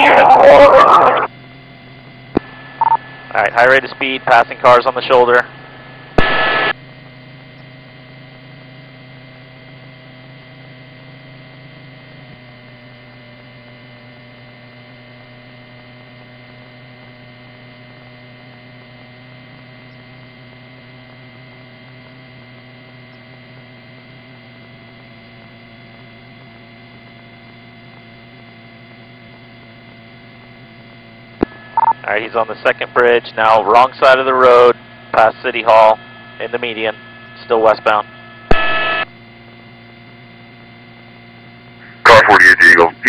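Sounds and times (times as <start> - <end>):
steady hum with faint whine: 0.0 - 43.0.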